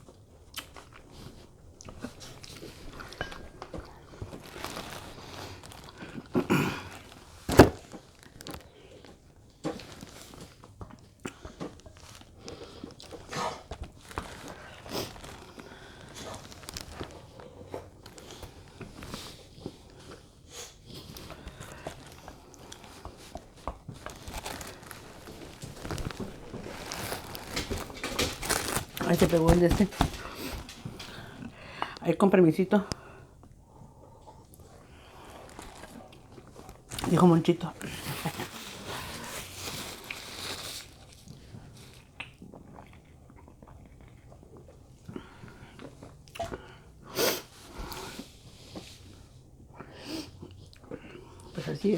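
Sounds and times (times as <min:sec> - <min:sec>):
chewing with clicks and crackles: 0:00.0 - 0:32.0, 0:32.7 - 0:47.1, 0:47.8 - 0:51.9.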